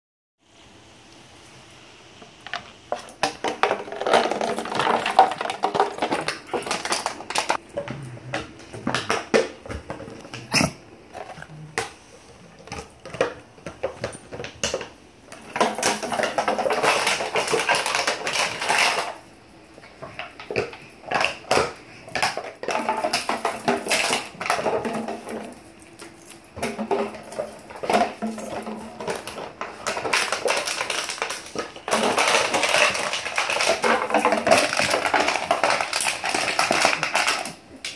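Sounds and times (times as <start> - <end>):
dogs crunching plastic bottle: 2.3 - 37.9.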